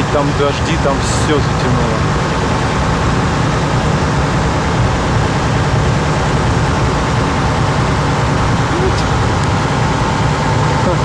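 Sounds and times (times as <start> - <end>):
motor boat engine rumble: 0.0 - 11.0.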